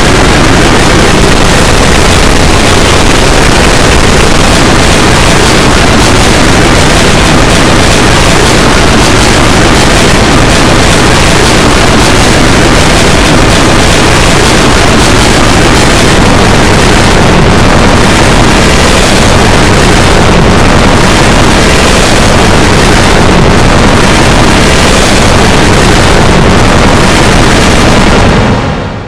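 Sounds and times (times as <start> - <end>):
harsh distorted noise: 0.0 - 29.0.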